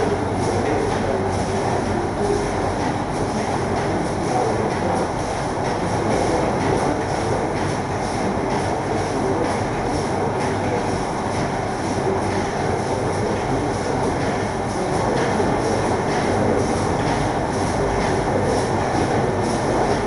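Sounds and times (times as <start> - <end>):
factory machinery din: 0.0 - 20.0
regular machine clatter: 0.0 - 20.0.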